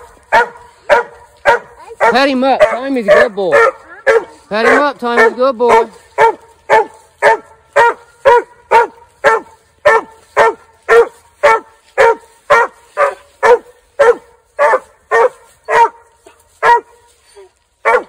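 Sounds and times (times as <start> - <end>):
hound barking: 0.0 - 18.0.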